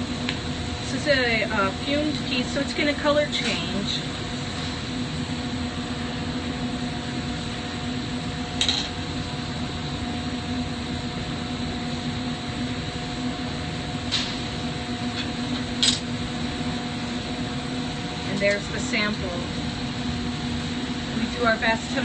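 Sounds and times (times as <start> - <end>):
workshop fan hum: 0.0 - 22.0.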